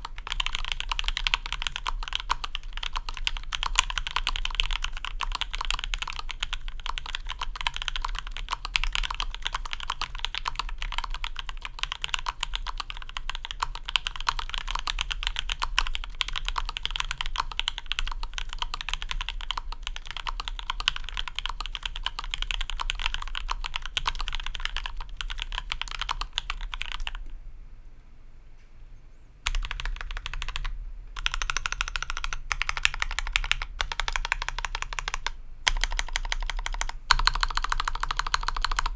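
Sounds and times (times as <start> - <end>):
mechanical keyboard typing: 0.0 - 27.3, 29.5 - 38.9.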